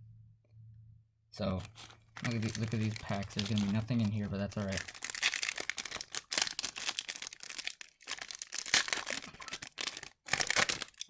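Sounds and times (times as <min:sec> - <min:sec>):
wrappers crinkling and tearing: 0:01.6 - 0:11.0.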